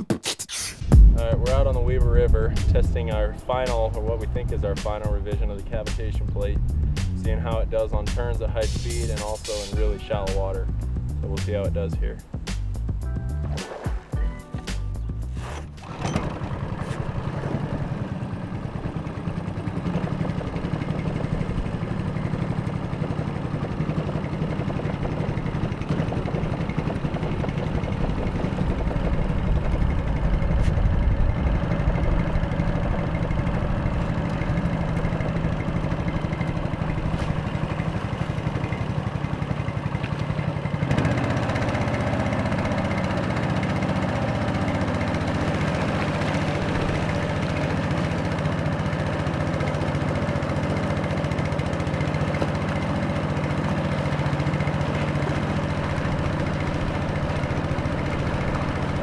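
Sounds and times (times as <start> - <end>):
boat motor running: 0.8 - 59.0.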